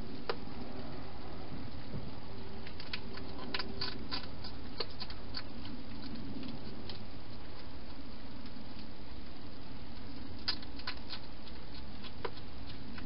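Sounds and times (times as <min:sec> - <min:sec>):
hedgehog chewing and crunching: 0:01.6 - 0:13.0.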